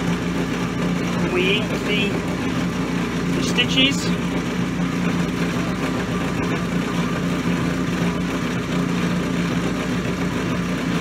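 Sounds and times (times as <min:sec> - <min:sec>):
machine motor humming: 0:00.0 - 0:11.0.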